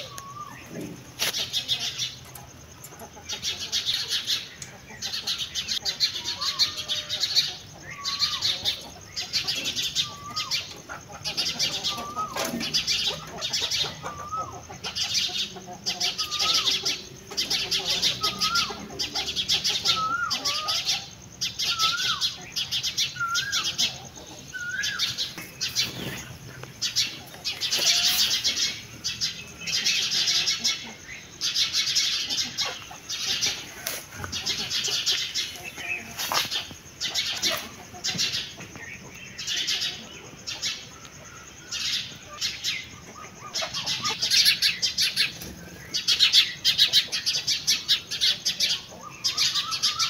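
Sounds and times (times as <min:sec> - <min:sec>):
songbirds twittering chorus: 0:00.0 - 0:50.0.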